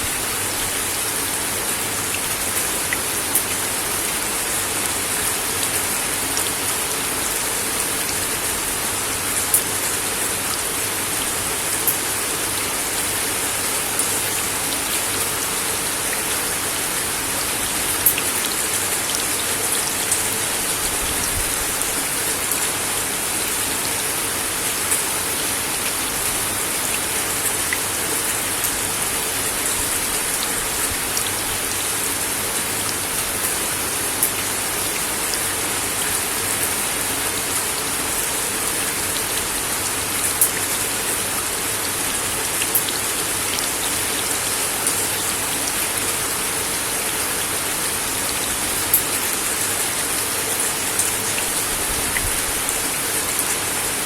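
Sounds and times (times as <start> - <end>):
rain on a wooden deck: 0.0 - 54.0.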